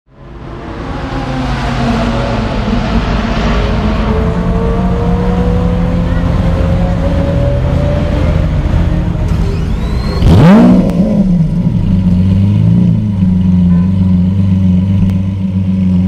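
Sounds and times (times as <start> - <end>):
car engines running: 0.1 - 16.0.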